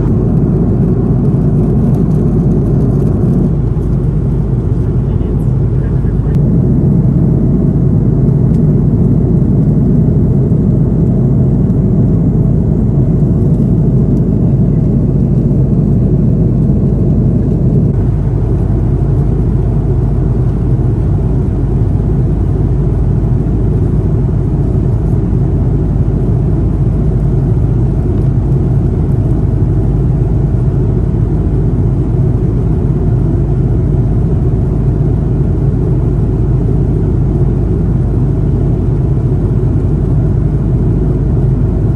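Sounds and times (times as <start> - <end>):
jet engine rumble in cabin: 0.0 - 41.9.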